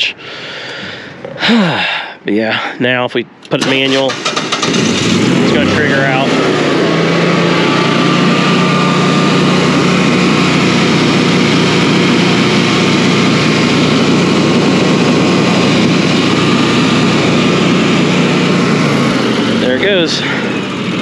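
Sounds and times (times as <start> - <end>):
generator engine running: 3.5 - 21.0.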